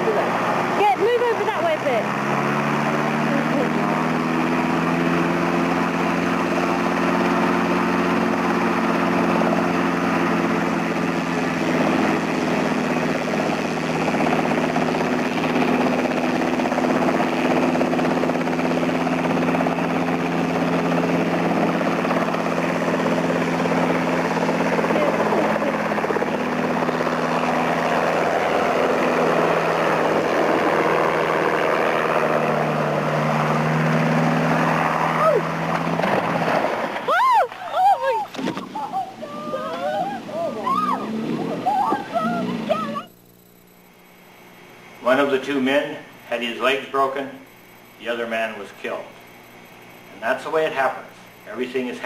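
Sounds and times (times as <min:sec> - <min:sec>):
helicopter engine and rotor: 0:00.0 - 0:36.5, 0:38.0 - 0:52.0.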